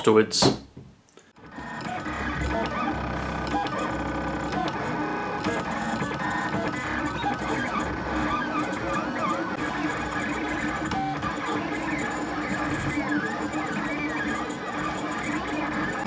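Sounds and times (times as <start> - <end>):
stepper motors whirring: 1.4 - 16.0.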